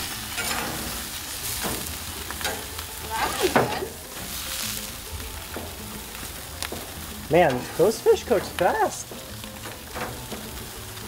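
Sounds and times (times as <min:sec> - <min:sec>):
spatula and tongs scraping grates: 0:00.0 - 0:10.8
fish sizzling over flames: 0:00.0 - 0:11.0.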